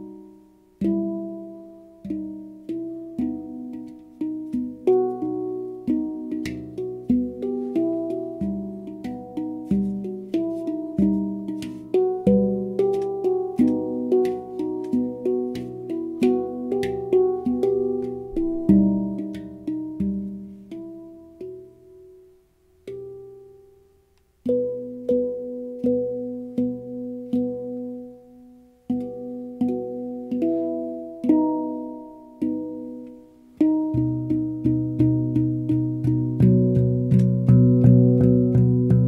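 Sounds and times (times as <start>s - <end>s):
handpan ringing steel notes: 0.0s - 39.0s.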